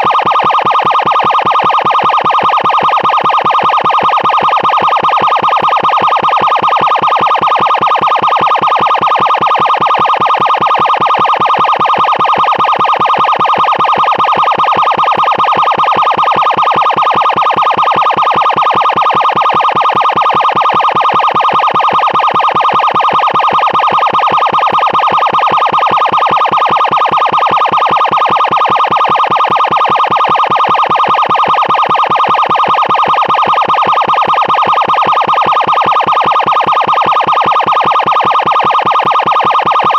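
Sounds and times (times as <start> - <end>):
pulsing electronic siren: 0.0 - 39.9.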